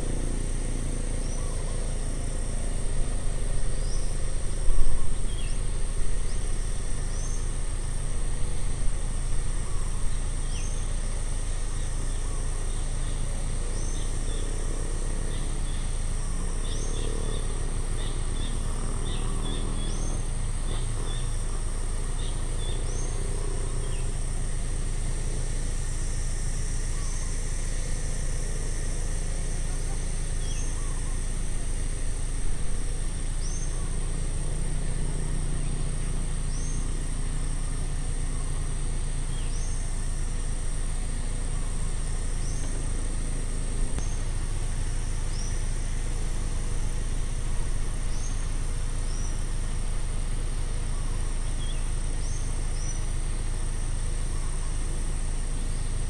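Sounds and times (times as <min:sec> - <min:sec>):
insect buzz: 0:00.0 - 0:56.0.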